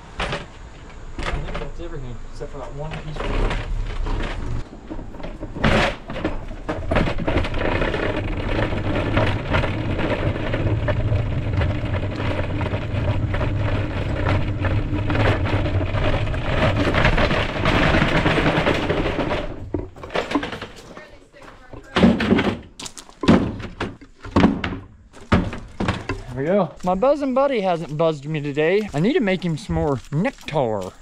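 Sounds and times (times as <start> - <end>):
wheels rumbling on asphalt: 0.0 - 22.3, 24.9 - 31.0
boards rattling and knocking: 2.6 - 31.0.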